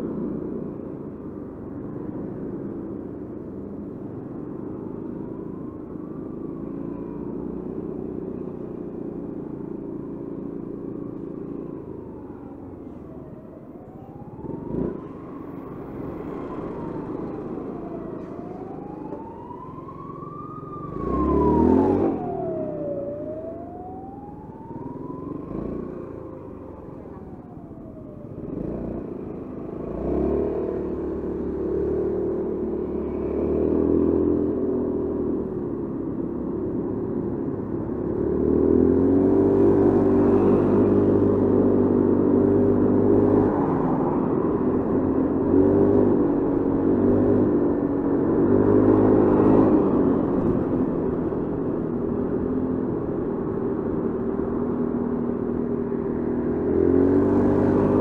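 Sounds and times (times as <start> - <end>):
siren wailing: 4.8 - 58.0.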